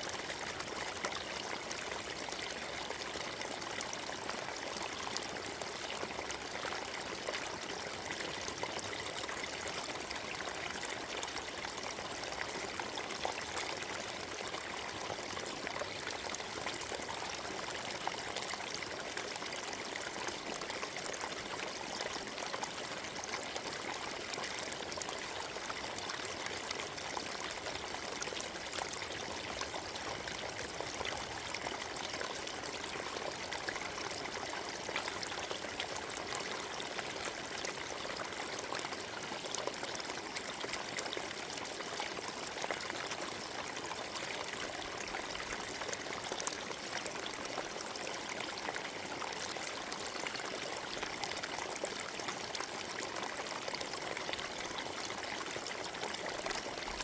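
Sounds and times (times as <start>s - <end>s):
stream trickling over rocks: 0.0s - 57.0s.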